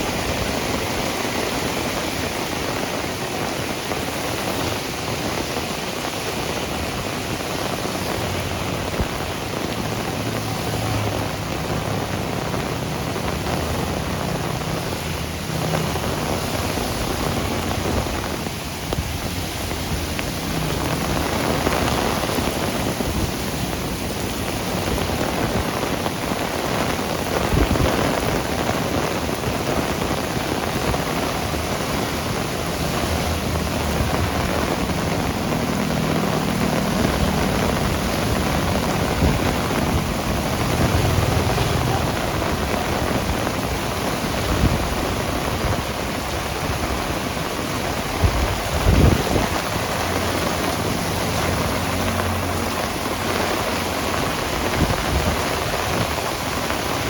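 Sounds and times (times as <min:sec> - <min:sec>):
heavy rain pouring: 0:00.0 - 0:57.0
vehicles passing: 0:00.0 - 0:57.0.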